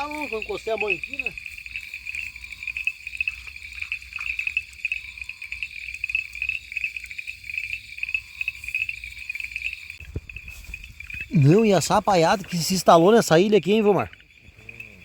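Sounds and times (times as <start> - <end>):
frogs and toads calling: 0.0 - 15.0.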